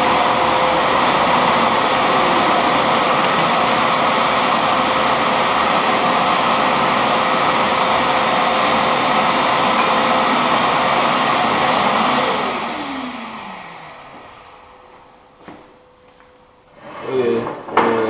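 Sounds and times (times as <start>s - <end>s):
vacuum winding down whine: 0.0s - 15.7s
shop vacuum running: 0.0s - 18.0s.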